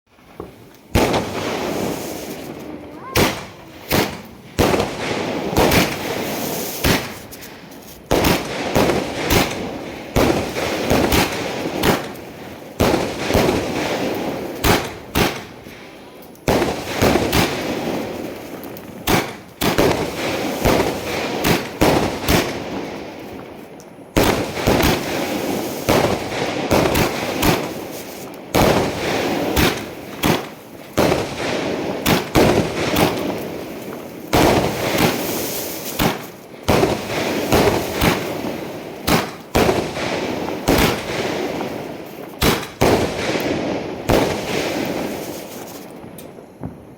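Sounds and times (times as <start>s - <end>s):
fireworks banging: 0.1s - 46.9s.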